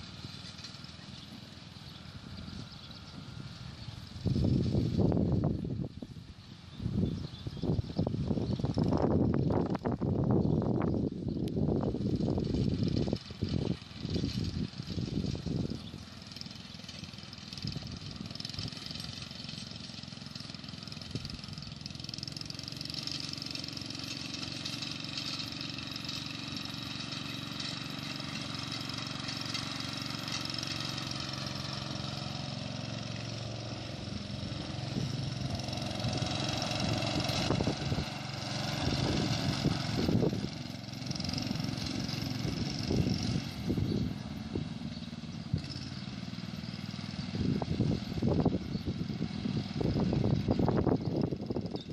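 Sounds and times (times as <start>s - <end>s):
garden tractor engine running: 0.0s - 51.9s.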